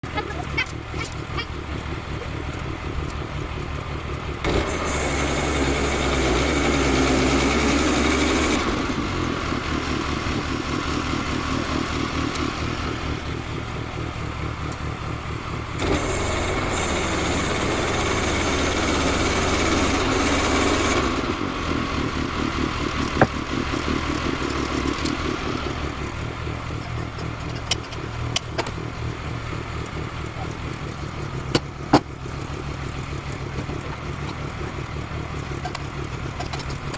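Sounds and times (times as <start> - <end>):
gas engine running: 0.0 - 36.9.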